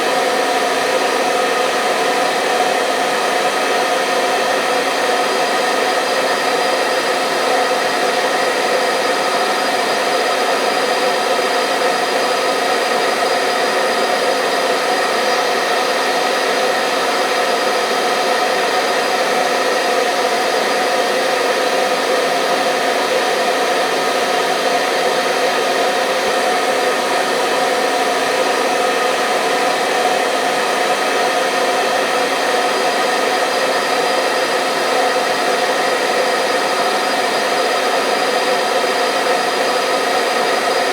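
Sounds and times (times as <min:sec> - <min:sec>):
hair dryer blowing with motor whine: 0:00.0 - 0:40.9.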